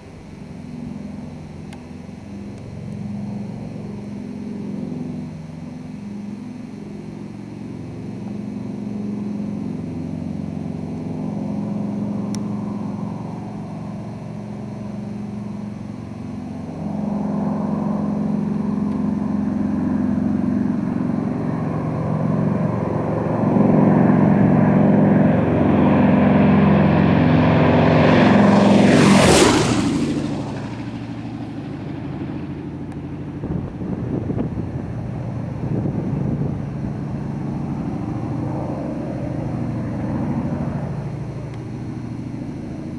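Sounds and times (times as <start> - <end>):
propeller plane flyby: 0.0 - 42.9.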